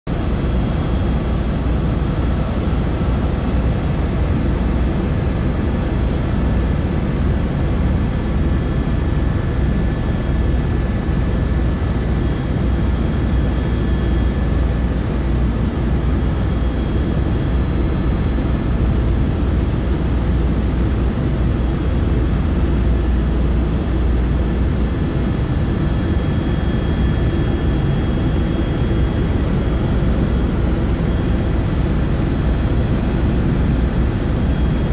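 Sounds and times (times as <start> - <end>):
helicopter engine and rotor drone: 0.1 - 34.9
faint high whine: 0.2 - 34.9.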